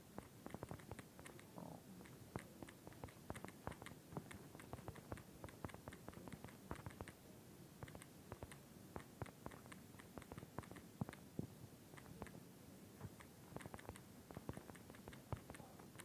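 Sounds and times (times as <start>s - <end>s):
keyboard typing clicks: 0.2s - 7.2s, 7.8s - 11.2s, 12.0s - 12.4s, 13.0s - 16.0s.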